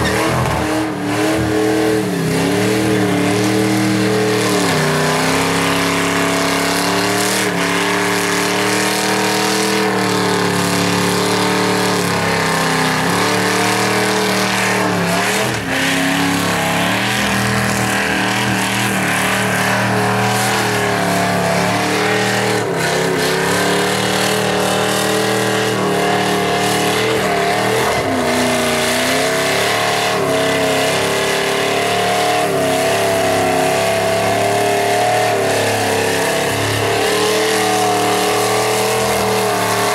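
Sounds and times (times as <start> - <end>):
engine at high revs: 0.0 - 39.9
spinning tyres rushing: 0.0 - 39.9.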